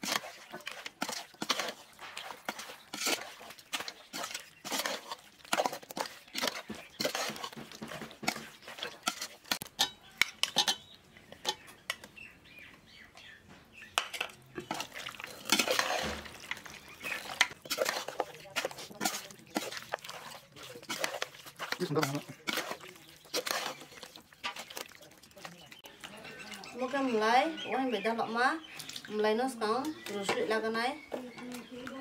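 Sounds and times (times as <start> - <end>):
metal spoon scraping a pot: 0.0 - 12.0, 14.0 - 27.7.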